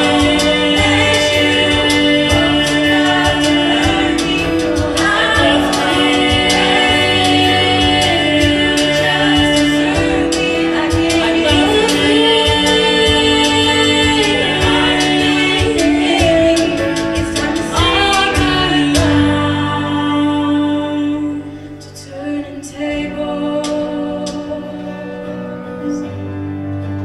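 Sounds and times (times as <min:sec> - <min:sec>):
female choir singing harmonies: 0:00.0 - 0:26.2
live band with bass and drums: 0:00.0 - 0:27.0.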